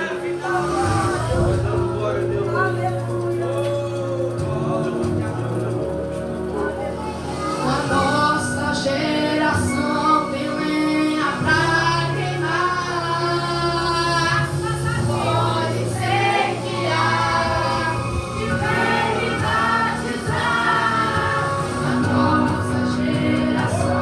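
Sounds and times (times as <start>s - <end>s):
choir singing gospel song: 0.0s - 6.2s, 7.1s - 24.0s
instrumental accompaniment: 0.0s - 24.0s.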